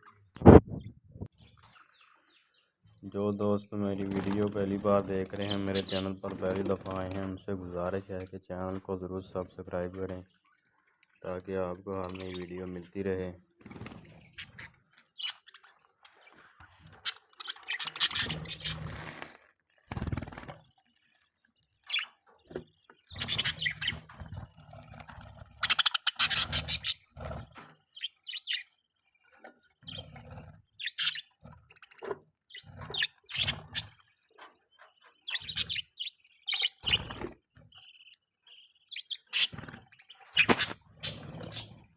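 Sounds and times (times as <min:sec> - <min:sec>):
budgerigars chirping and chattering: 0:01.4 - 0:10.6, 0:11.2 - 0:19.1, 0:21.8 - 0:28.8, 0:29.4 - 0:41.9.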